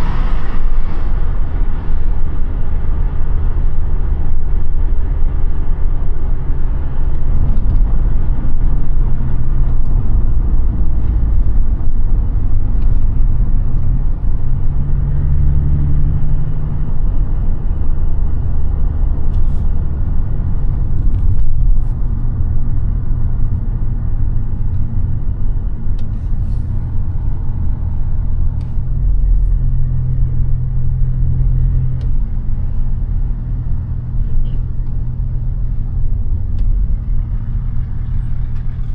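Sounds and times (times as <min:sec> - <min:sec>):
diesel engine drone: 0:00.0 - 0:38.9
road and tyre noise: 0:00.0 - 0:38.9.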